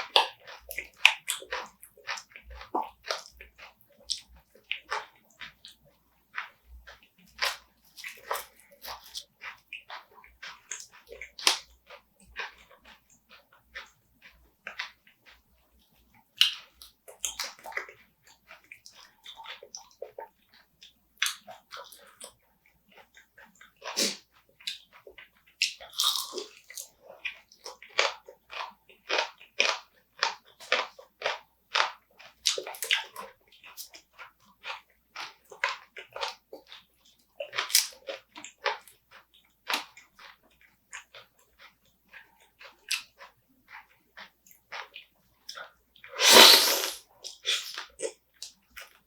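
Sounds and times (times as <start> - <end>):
wet chewing smacks: 0.0 - 49.0.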